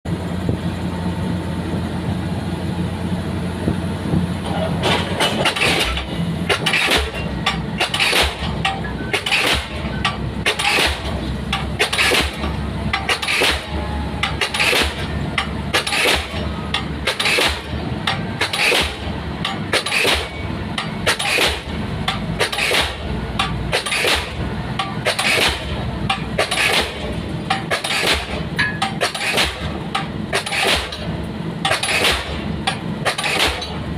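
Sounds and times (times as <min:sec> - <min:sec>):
rig engine running: 0:00.0 - 0:33.9
pile-driving hammer striking: 0:04.8 - 0:33.8.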